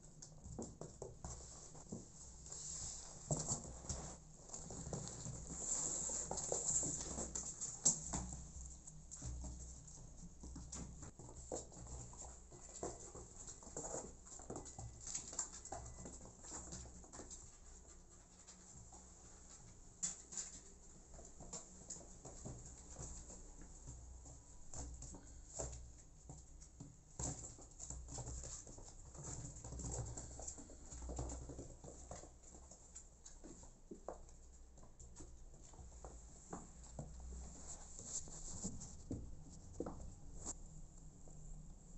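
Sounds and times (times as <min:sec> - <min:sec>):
paws scratching on cardboard: 0:00.1 - 0:40.6.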